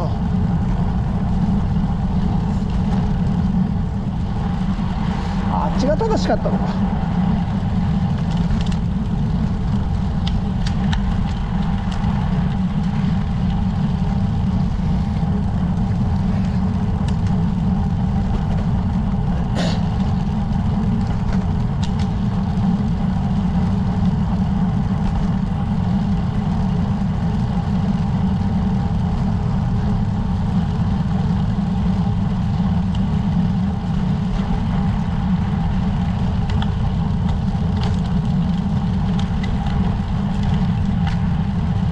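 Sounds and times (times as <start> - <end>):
wind and road rumble: 0.0 - 41.9.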